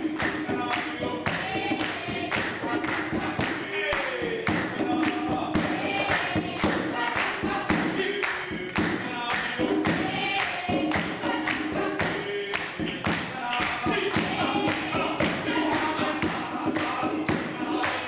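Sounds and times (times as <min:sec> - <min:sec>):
group of voices singing: 0:00.0 - 0:18.0
steady beat of sharp strikes: 0:00.0 - 0:18.0.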